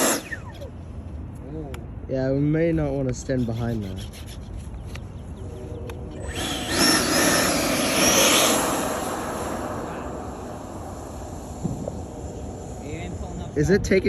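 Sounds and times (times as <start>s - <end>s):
electric ducted fan whine: 0.0s - 14.0s.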